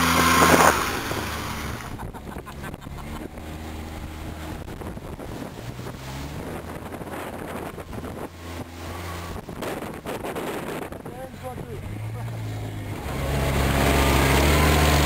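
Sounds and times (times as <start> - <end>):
wind buffeting microphone: 0.0 - 14.8
vehicle engine running: 0.0 - 15.0
water splashing around wheels: 0.0 - 15.0.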